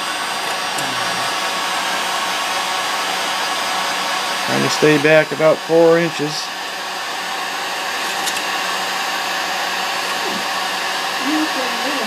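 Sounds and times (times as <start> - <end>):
hot-air blower rushing air: 0.0 - 12.0.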